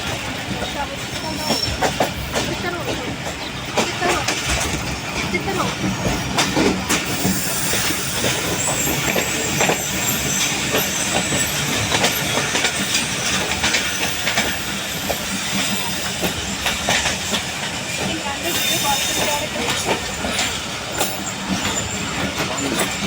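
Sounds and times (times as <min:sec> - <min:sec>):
train rumble and hiss: 0:00.0 - 0:23.0
train wheels clattering over rail joints: 0:00.0 - 0:23.0.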